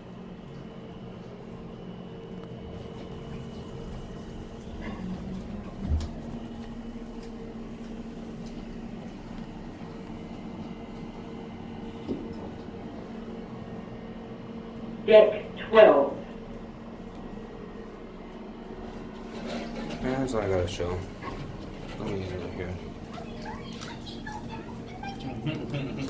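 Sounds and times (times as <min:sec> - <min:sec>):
elevator humming: 0:00.0 - 0:26.0.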